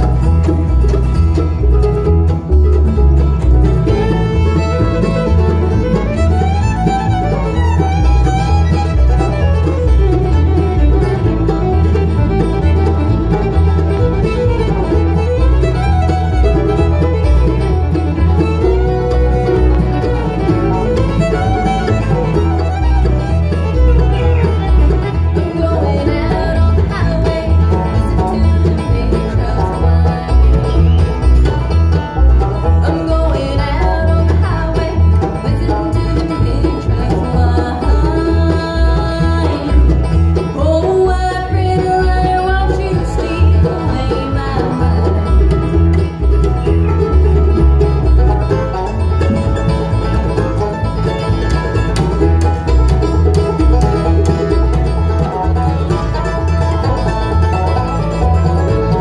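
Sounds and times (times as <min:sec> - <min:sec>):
upright bass beat: 0:00.0 - 0:35.3, 0:41.1 - 0:59.0
banjo picking: 0:00.0 - 0:59.0
bluegrass band playing: 0:00.0 - 0:59.0.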